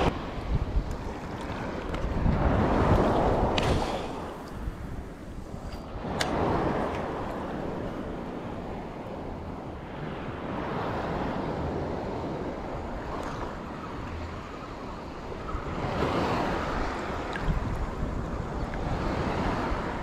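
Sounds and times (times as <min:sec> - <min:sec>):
choppy water lapping: 0:00.0 - 0:20.0
wind buffeting microphone: 0:00.0 - 0:20.0.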